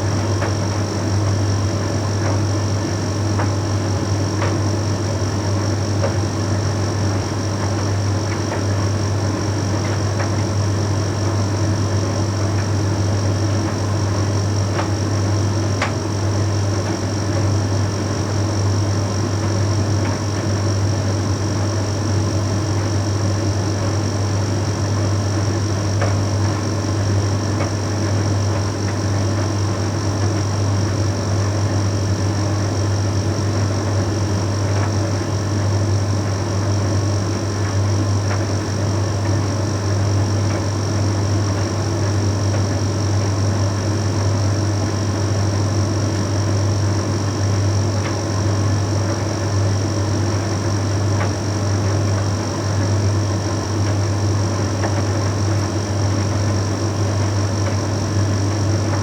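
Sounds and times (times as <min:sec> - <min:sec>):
tumble dryer humming: 0:00.0 - 0:59.0.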